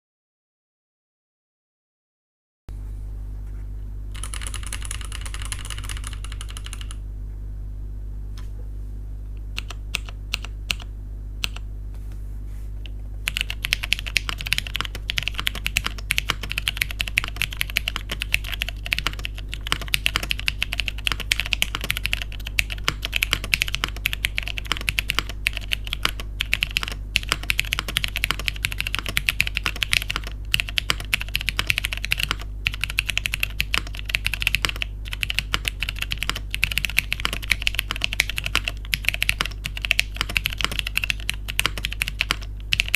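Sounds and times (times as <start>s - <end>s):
mechanical keyboard typing: 4.2s - 7.0s, 9.6s - 11.6s, 13.2s - 42.9s.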